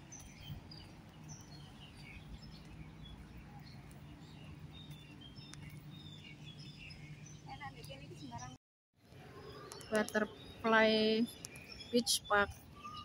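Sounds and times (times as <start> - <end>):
small birds chirping: 0.0 - 8.6, 9.2 - 13.0.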